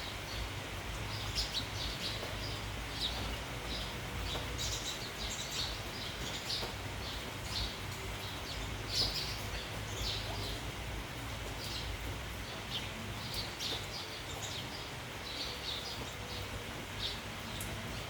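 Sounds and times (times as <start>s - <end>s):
sparrows chirping: 0.1s - 10.8s, 11.5s - 18.0s.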